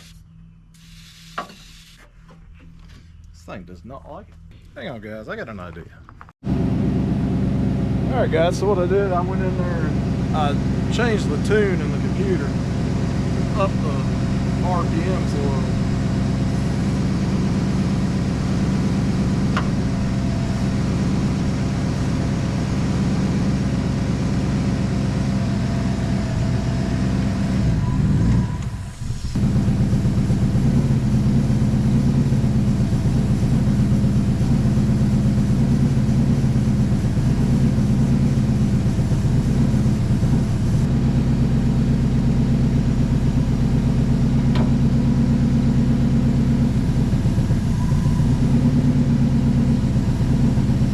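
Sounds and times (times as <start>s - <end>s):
engine running at raised idle: 6.4s - 50.9s.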